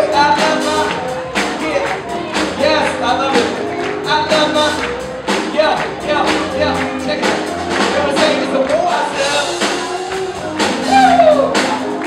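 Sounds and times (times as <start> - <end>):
drum beat: 0.0 - 12.0
electric guitar: 0.0 - 12.0
person singing: 0.0 - 12.0.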